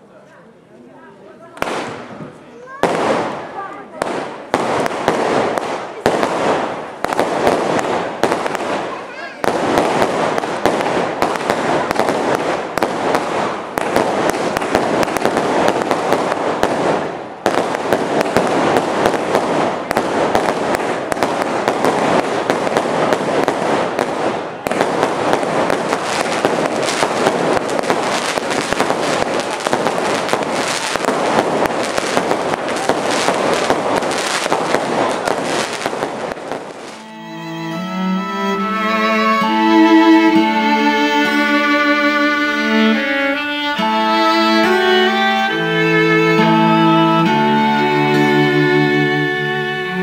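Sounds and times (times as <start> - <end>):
fireworks crackling and popping: 0.0 - 50.0
violin music: 9.4 - 50.0.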